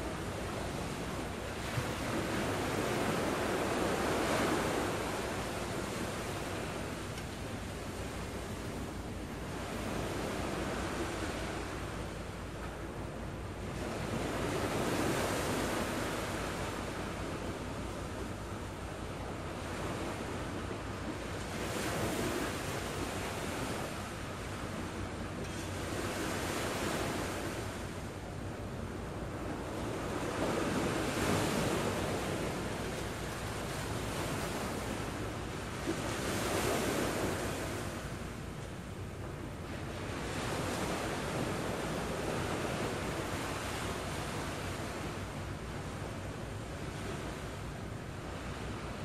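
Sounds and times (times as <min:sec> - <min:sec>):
small waves breaking on beach: 0:00.0 - 0:12.0, 0:19.4 - 0:49.0.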